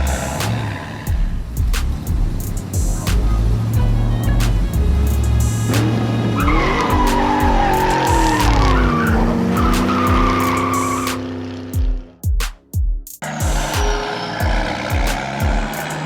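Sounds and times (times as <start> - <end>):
car engine: 0.0 - 11.8, 13.2 - 16.0
car tyres screeching: 0.0 - 11.8, 13.2 - 16.0
background music with steady beat: 0.0 - 16.0.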